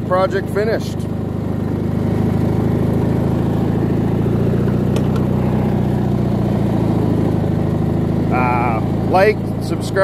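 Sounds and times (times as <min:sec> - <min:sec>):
riding mower engine running: 0:00.0 - 0:10.0.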